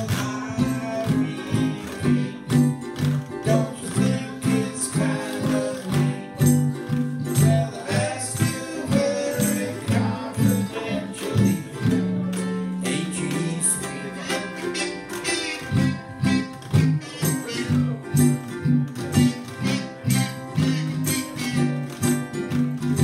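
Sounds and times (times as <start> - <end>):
ukulele and guitar strumming: 0.0 - 23.0
washboard percussion: 0.0 - 23.0.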